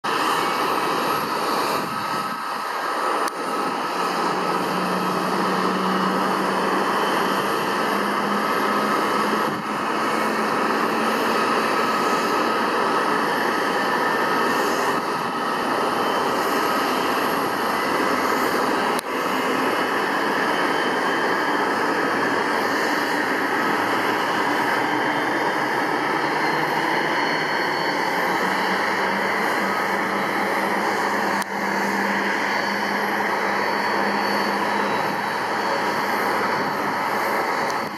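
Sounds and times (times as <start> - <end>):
jet engine rushing: 0.0 - 37.9.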